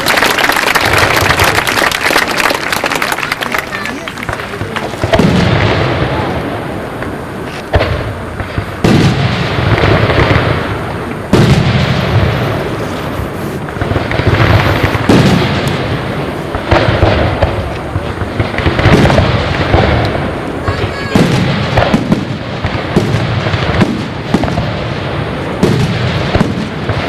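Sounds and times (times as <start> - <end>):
fireworks bangs with crackle: 0.0 - 27.0.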